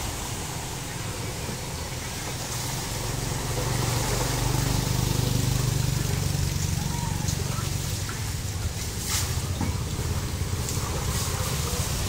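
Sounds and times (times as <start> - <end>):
motorbike engine humming: 0.0 - 12.0.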